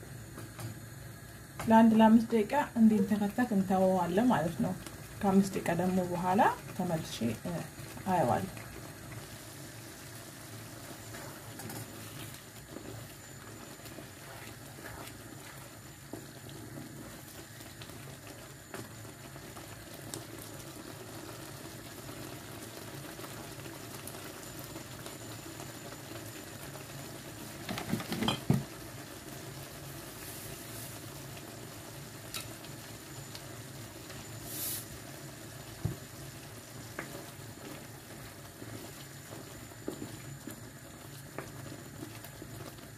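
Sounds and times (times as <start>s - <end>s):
sauce bubbling in a pan: 0.0s - 42.9s.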